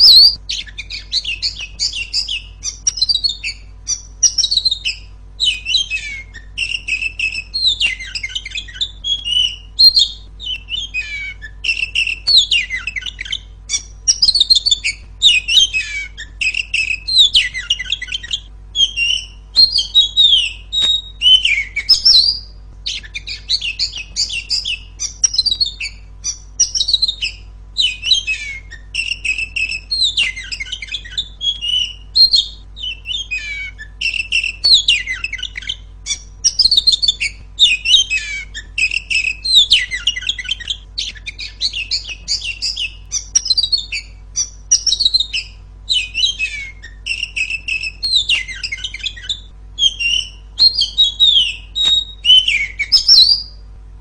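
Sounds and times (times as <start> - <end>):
bird singing chirps and trills: 0.0 - 53.6.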